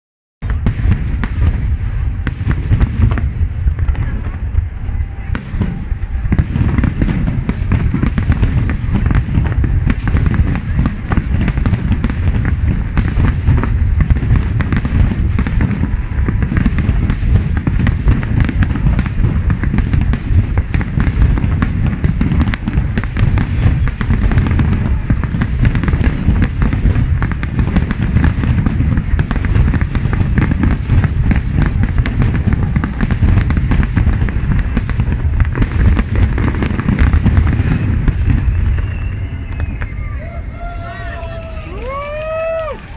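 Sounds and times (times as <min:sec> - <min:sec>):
firework crackling: 0:00.4 - 0:42.9.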